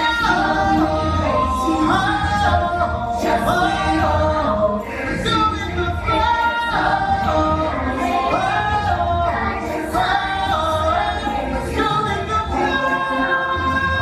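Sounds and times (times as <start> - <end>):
stage musical song with singing: 0.0 - 14.0.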